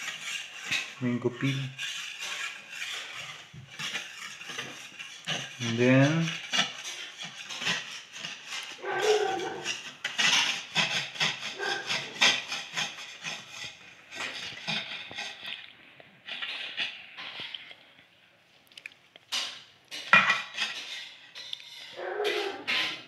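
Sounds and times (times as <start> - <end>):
knife scraping against a plate: 0.0 - 15.7, 16.3 - 17.6, 19.3 - 23.0.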